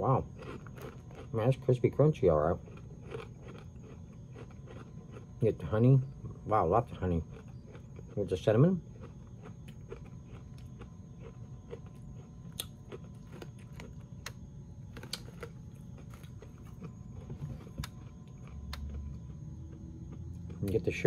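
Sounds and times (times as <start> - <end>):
crunchy chewing: 0.0 - 21.0
steady low hum: 0.0 - 21.0.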